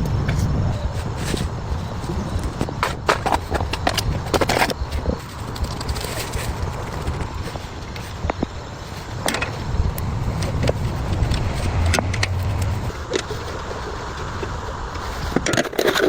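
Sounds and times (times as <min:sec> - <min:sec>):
small tractor engine rumbling: 0:00.0 - 0:15.4.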